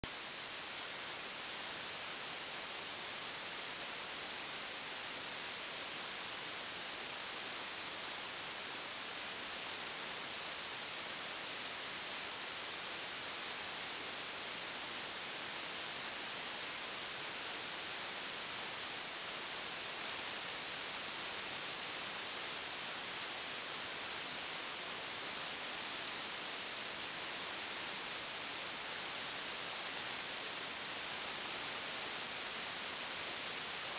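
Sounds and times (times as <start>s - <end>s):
electronic hiss: 0.0s - 33.9s.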